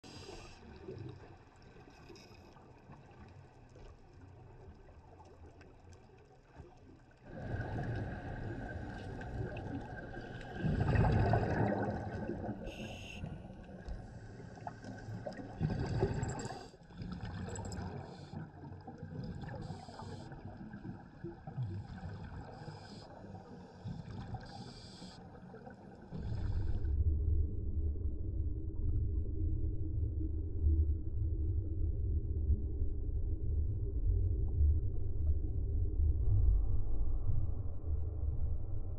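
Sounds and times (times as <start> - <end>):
muffled underwater rushing water: 0.0 - 38.9.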